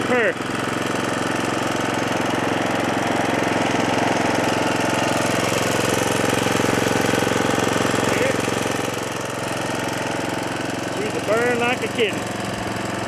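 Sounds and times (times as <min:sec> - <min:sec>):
riding mower engine running: 0:00.0 - 0:13.0.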